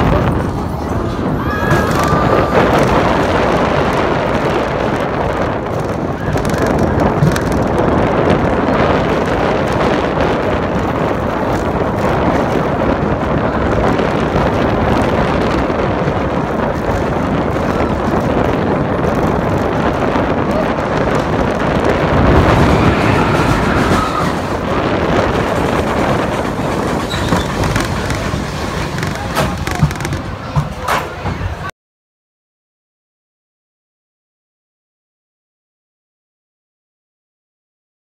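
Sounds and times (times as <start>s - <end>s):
roller coaster wheels rumbling on rail: 0.0s - 31.7s
wind rushing over microphone: 0.0s - 31.7s.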